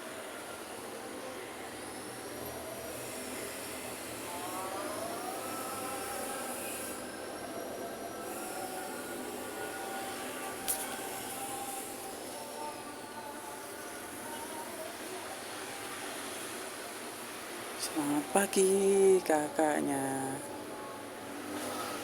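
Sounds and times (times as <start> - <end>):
bus engine whine: 0.0 - 22.0.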